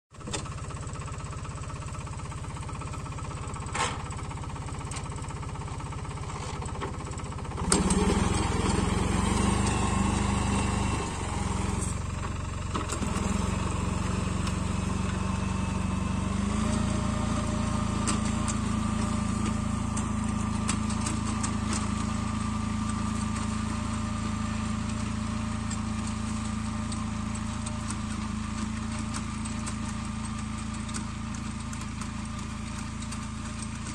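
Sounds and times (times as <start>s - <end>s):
rotavator tilling soil: 0.2s - 33.9s
tractor diesel engine under load: 0.2s - 33.9s.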